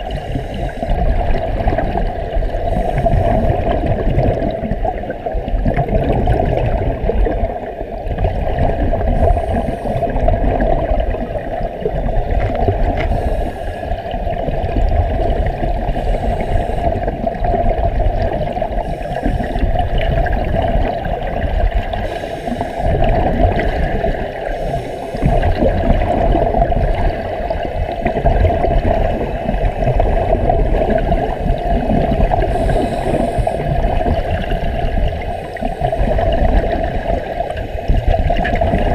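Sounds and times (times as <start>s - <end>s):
air bubbles gurgling: 0.0s - 38.9s
muffled underwater rumble: 0.0s - 38.9s.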